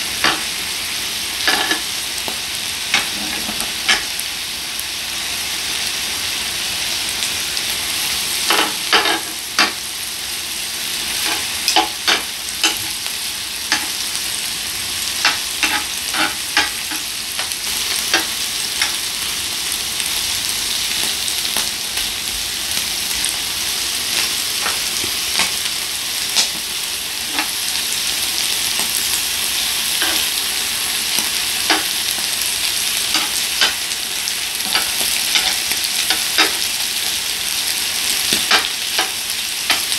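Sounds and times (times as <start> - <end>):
meat sizzling on a grill pan: 0.0 - 39.9.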